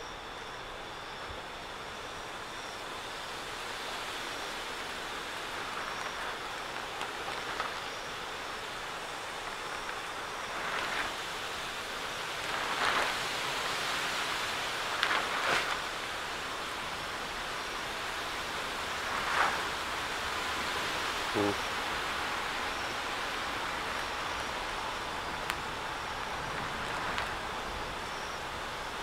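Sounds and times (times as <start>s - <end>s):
rain hissing: 0.0s - 29.0s.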